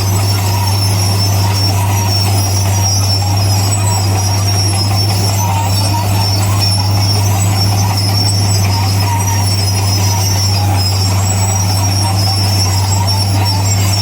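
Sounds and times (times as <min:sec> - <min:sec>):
crawler tracks squealing: 0:00.0 - 0:14.0
diesel engine droning: 0:00.0 - 0:14.0.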